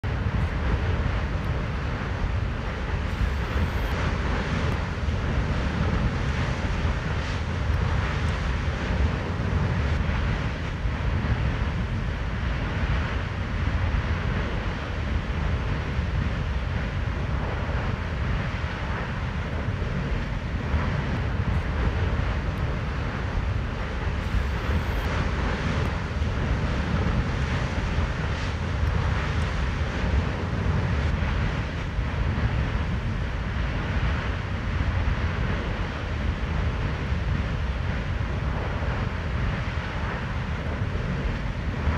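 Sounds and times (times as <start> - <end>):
wind buffeting microphone: 0.0 - 41.9
lava lake roaring: 0.1 - 41.9.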